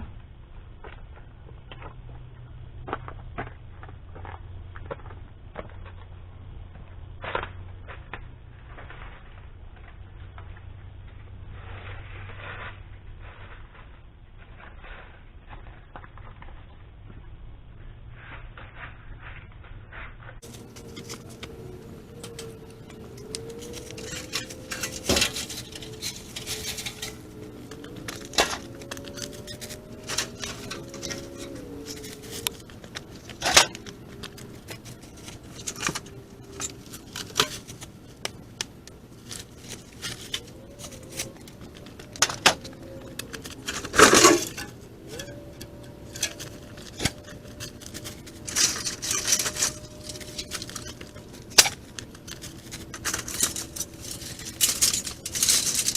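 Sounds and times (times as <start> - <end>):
scraping rustles: 7.2 - 17.2, 18.1 - 55.9.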